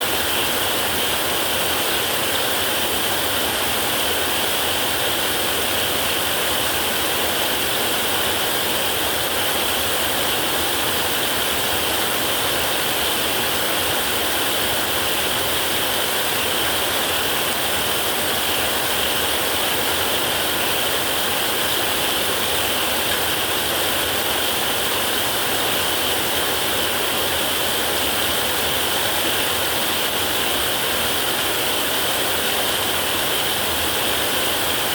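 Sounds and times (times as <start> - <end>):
heavy rain on a metal roof: 0.0 - 34.9.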